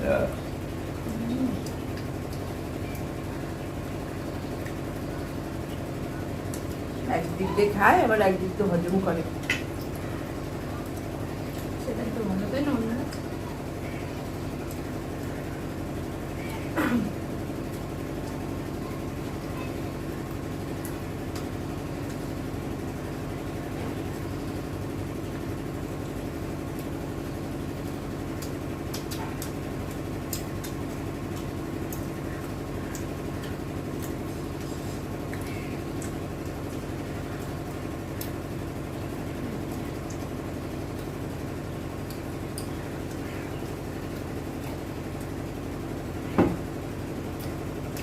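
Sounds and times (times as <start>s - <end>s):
machine hum: 0.0s - 48.0s
faint eating clicks: 0.3s - 7.4s, 8.4s - 45.8s, 47.1s - 48.0s.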